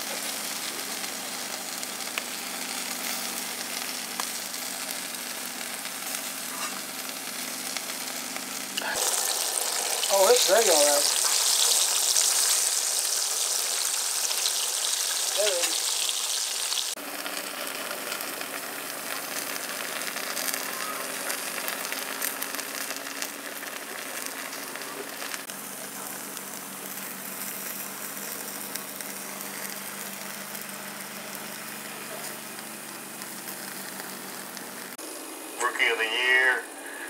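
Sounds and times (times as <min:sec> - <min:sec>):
fish sizzling on a grill: 0:00.0 - 0:37.0.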